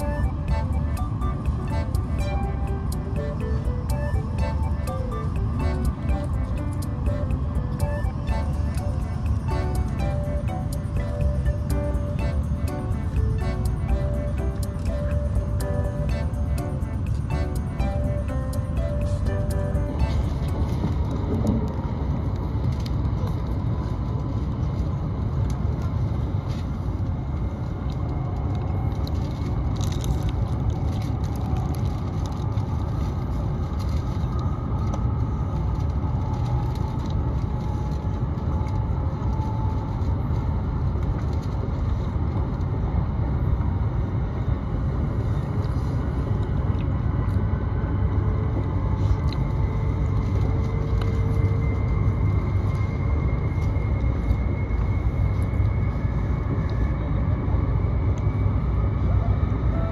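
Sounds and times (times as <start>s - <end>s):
train cabin rumble and rush: 0.0s - 59.9s.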